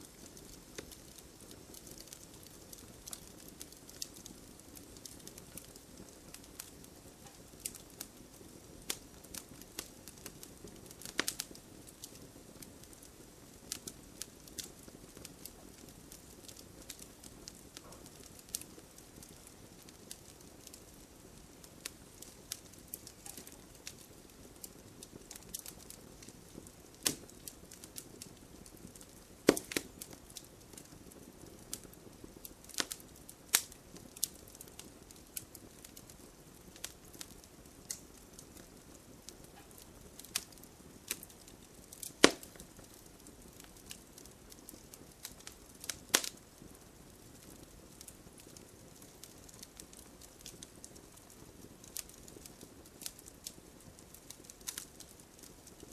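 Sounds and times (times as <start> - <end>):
fire crackling: 0.0 - 55.9
sharp pops of fire: 0.0 - 55.9.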